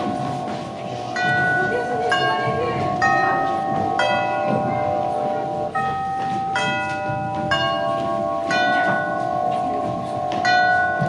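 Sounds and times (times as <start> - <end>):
held music note: 0.0 - 11.0
bell-like chime tones: 1.1 - 11.0.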